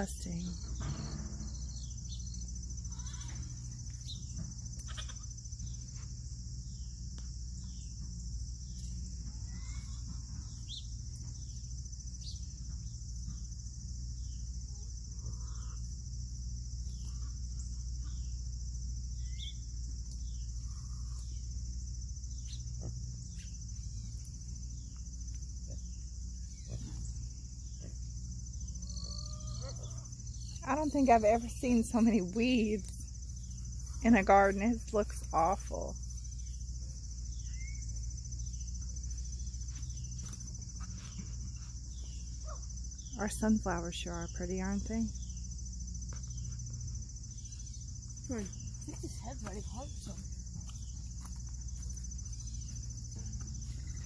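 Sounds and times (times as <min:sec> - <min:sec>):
crickets and insects chorus: 0:00.0 - 0:54.0.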